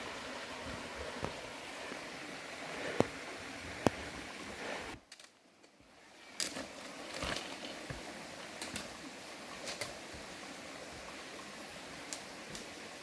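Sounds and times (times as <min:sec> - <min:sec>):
mountain stream rushing: 0:00.0 - 0:05.0, 0:05.8 - 0:13.0.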